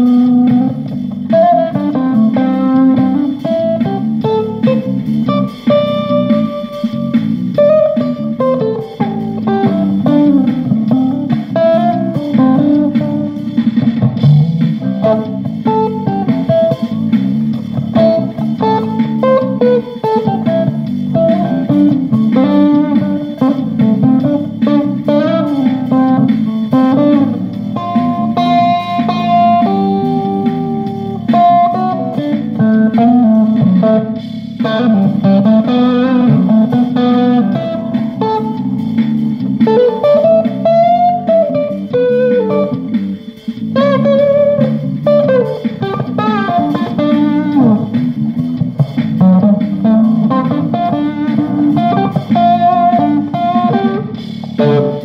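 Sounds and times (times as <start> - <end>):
electric guitar lead lines: 0.0 - 55.0
low accompaniment: 0.0 - 55.0.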